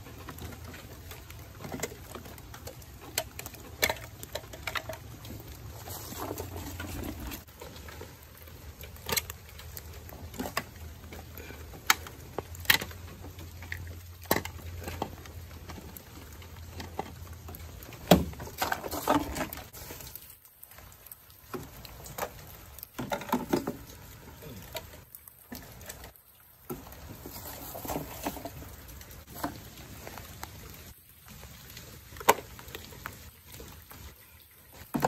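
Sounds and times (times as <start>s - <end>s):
light rain pattering: 0.0s - 35.0s
rustling: 0.0s - 35.0s.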